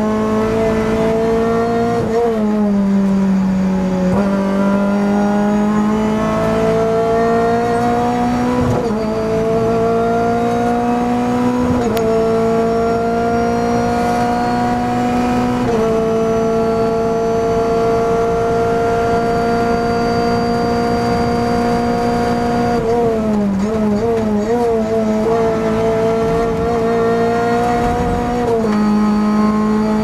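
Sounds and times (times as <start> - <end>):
race car engine at full throttle: 0.0 - 30.0.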